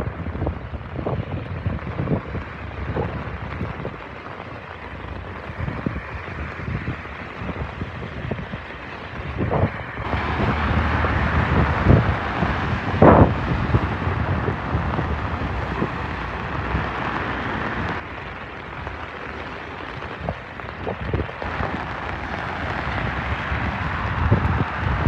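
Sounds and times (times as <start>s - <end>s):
car tyres hissing on wet road: 0.0s - 25.0s
rain hiss: 0.0s - 25.0s
traffic on wet road: 0.0s - 25.0s
wind buffeting microphone: 0.0s - 25.0s.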